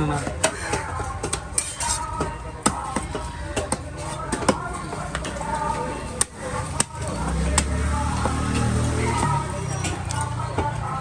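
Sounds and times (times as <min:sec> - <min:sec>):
background voices: 0:00.0 - 0:11.0
faint music: 0:00.0 - 0:11.0.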